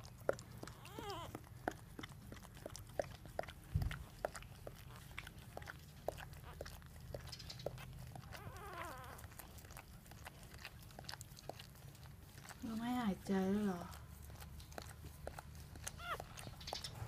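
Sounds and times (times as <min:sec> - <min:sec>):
puppy whine: 0:00.0 - 0:11.9, 0:14.3 - 0:17.0
puppies nursing wet clicks: 0:00.0 - 0:17.0.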